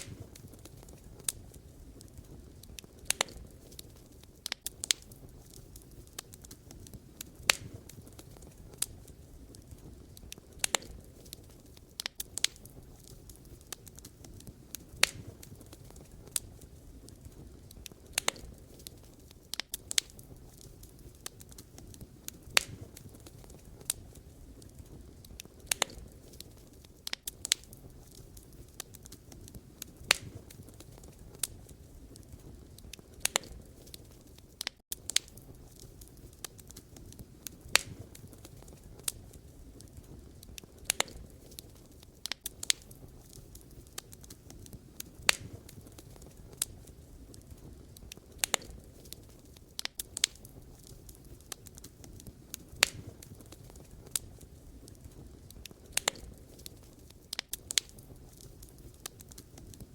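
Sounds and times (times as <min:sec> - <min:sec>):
burning logs crackling and popping: 0:00.0 - 0:59.9
low rumble of flame: 0:00.0 - 0:59.9.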